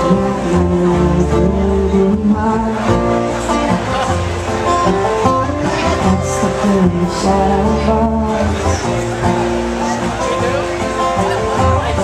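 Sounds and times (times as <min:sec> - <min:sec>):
acoustic bluegrass band playing: 0:00.0 - 0:12.0
upright bass plucked: 0:00.0 - 0:12.0.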